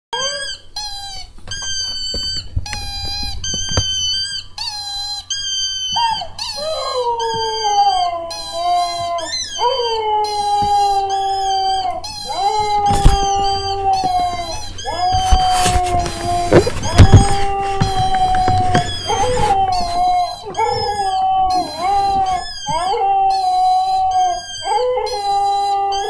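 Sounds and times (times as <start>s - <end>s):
rubber squeak toy squeaking: 0.2s - 26.0s
dog howling: 4.0s - 26.0s.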